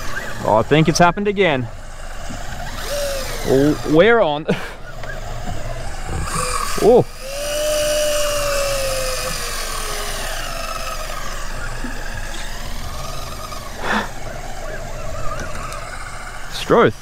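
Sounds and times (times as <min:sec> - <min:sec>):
electric fishing reel whine: 0:00.0 - 0:17.0.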